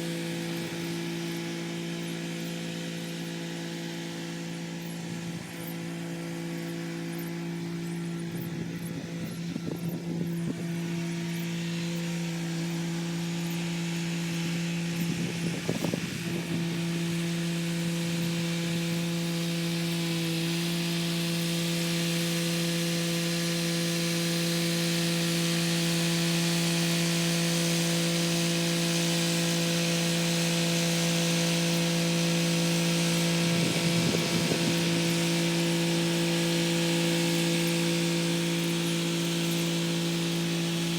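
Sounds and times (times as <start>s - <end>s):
hiss of tilling soil: 0.0s - 40.9s
tractor diesel engine running: 0.0s - 40.9s.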